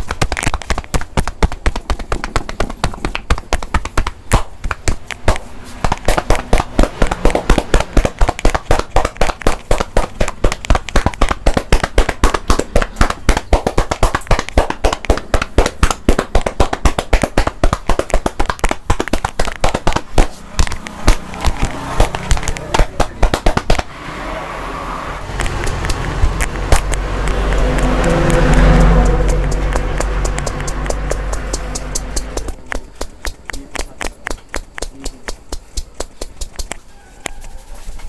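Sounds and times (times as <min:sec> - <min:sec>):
hands slapping on body: 0:00.0 - 0:23.9, 0:25.3 - 0:36.9.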